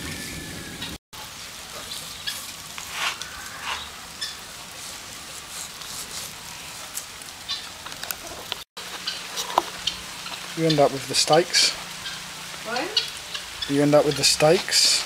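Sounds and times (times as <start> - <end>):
steak sizzling on a barbecue: 0.2 - 15.0
fat crackling and popping: 1.2 - 15.0.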